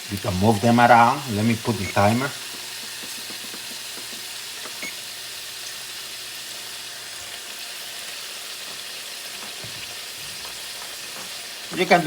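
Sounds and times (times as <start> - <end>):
fries sizzling in hot oil: 0.0 - 12.0.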